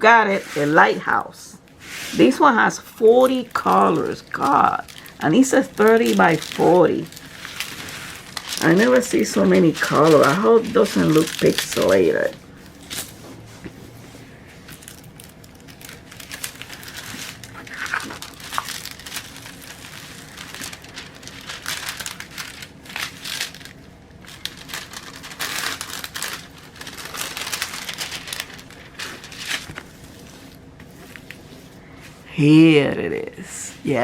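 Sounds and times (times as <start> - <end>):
plastic packaging crinkling: 3.0 - 13.2, 14.5 - 32.3.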